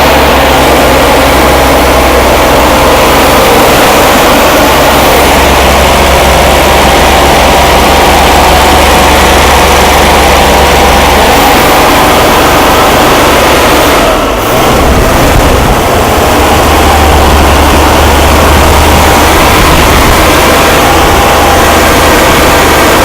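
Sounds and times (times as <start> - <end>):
engine running steadily: 0.0 - 23.0.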